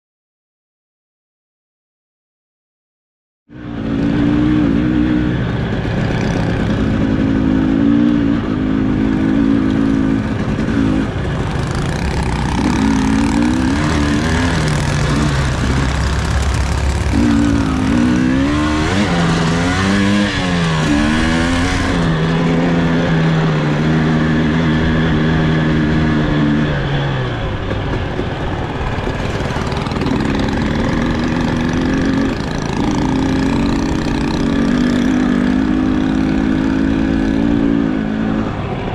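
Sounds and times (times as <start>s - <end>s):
dirt bike engine revving: 3.5s - 38.7s.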